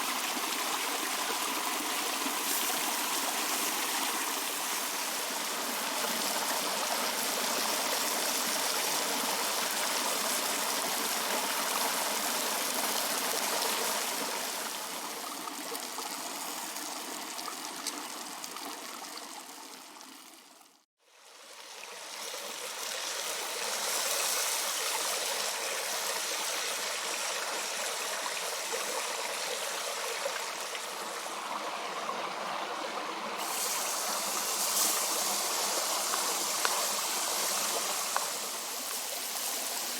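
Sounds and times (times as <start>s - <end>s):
creek water rushing: 0.0s - 19.6s, 21.9s - 39.9s.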